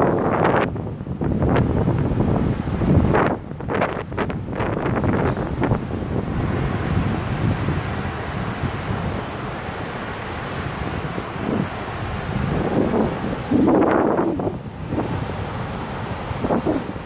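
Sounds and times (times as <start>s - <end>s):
low rushing noise: 0.0s - 17.0s
wind buffeting microphone: 0.0s - 17.0s.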